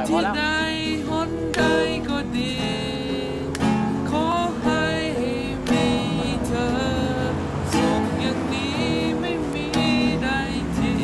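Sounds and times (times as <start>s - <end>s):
acoustic guitar strumming: 0.0s - 11.0s
man singing: 0.0s - 11.0s.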